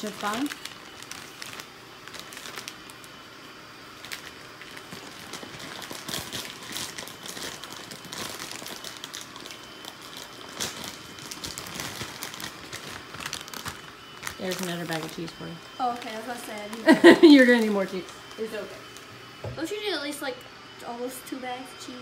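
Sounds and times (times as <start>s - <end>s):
plastic bag crinkling: 0.0s - 3.2s, 3.9s - 19.1s.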